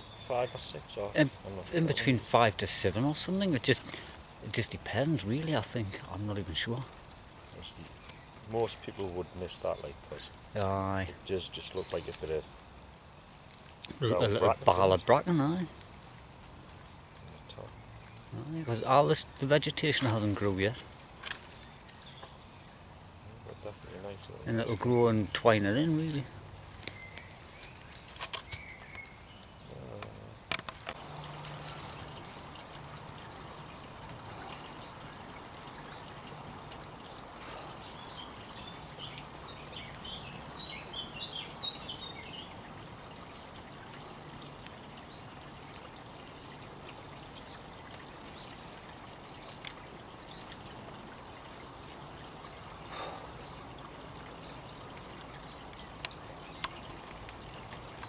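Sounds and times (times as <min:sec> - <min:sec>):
bird song: 0:00.0 - 0:15.8, 0:16.7 - 0:58.0.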